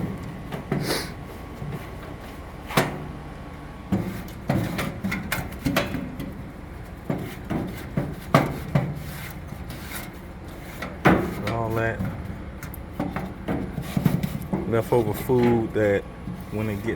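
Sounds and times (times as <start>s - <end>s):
stick scraping inside grill: 0.6s - 2.8s, 3.9s - 16.9s.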